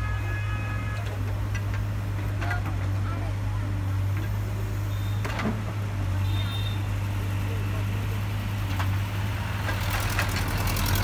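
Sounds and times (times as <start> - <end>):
diesel engine drone: 1.0 - 11.0.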